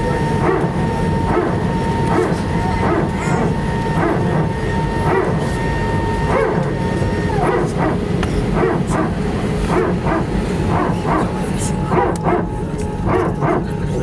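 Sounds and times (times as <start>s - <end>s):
aircraft cabin rumble: 0.0s - 14.0s
steady whine: 0.0s - 14.0s.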